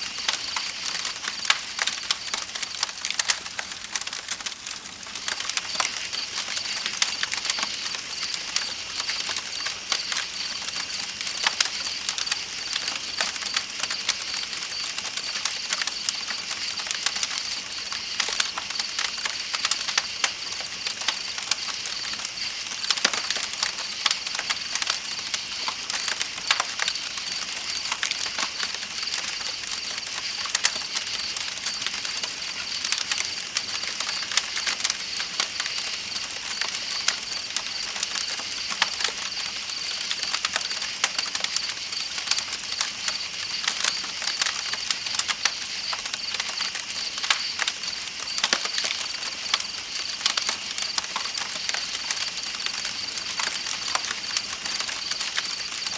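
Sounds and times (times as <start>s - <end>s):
night insects chirping: 0.0s - 3.2s, 5.1s - 55.9s
campfire crackling: 0.0s - 55.9s.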